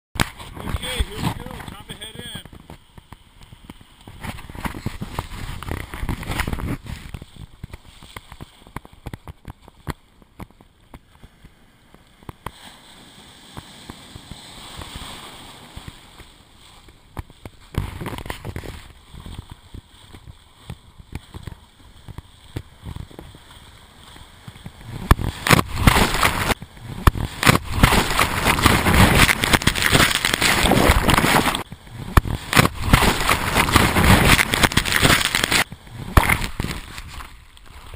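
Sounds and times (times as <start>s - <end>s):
surf washing over camera: 0.2s - 37.9s.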